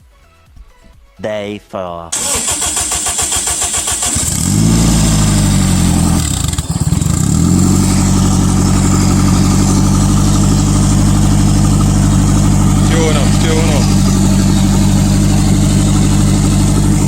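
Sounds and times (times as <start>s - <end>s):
car engine starting and idling: 2.1s - 17.0s.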